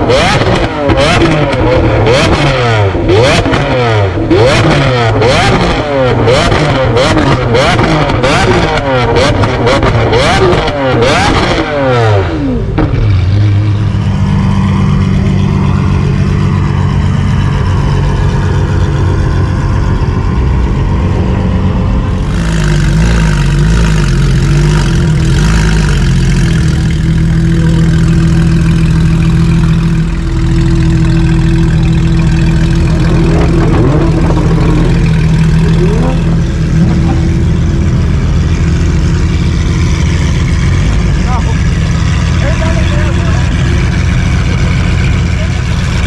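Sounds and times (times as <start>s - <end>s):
car engine revving and idling: 0.0s - 46.0s.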